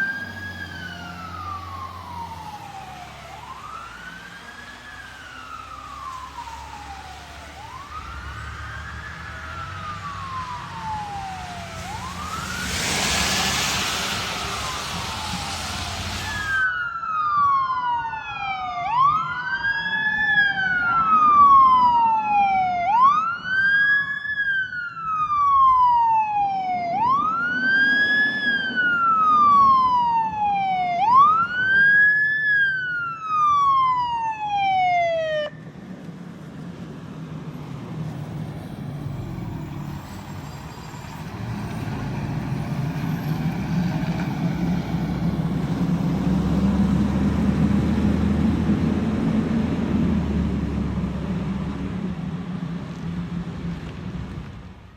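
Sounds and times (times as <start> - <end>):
second siren: 0.0 - 35.8, 38.6 - 49.3
fire engine siren wailing: 0.0 - 52.6
traffic: 0.0 - 54.9.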